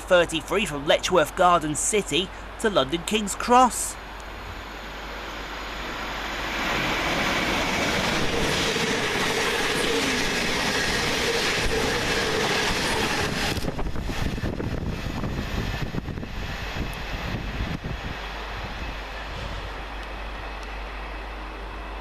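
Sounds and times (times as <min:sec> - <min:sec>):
train wheel and rail noise: 0:00.0 - 0:22.0.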